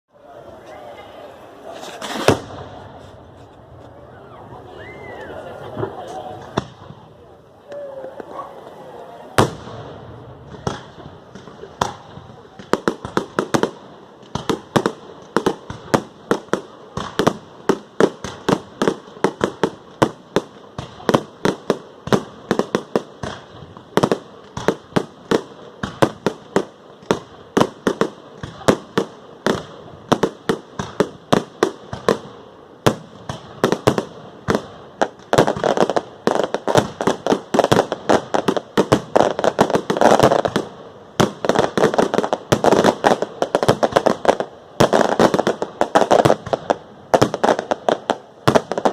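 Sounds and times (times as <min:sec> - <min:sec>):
fireworks bangs: 0:00.2 - 0:48.9
fireworks crackling: 0:00.2 - 0:48.9.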